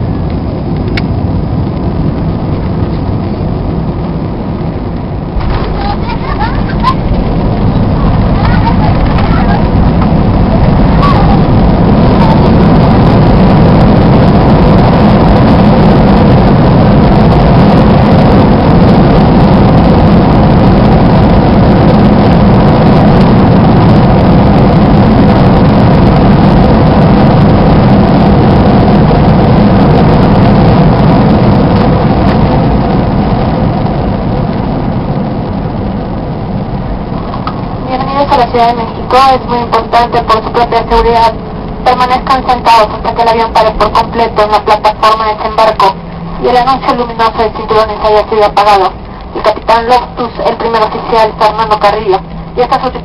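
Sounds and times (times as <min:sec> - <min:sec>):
jet engine reverse thrust roar: 0:00.0 - 0:53.0.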